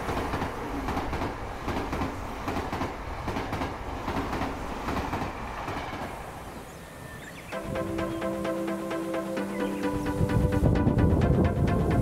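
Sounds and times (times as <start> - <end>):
train rumbling: 0.0 - 6.6, 7.5 - 12.0.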